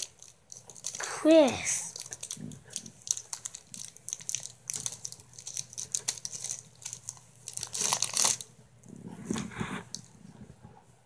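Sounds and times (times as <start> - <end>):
plastic wrapper crinkling: 0.0 - 10.2.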